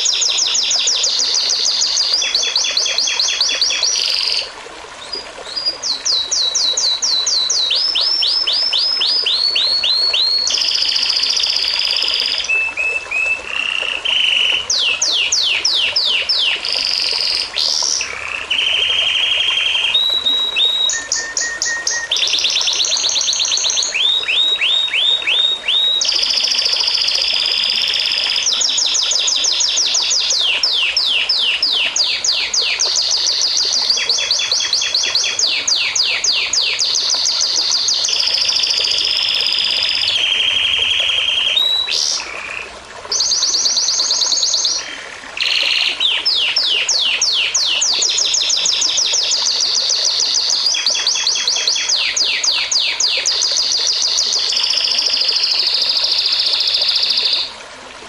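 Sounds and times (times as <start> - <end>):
songbird singing trills: 0.0 - 57.6.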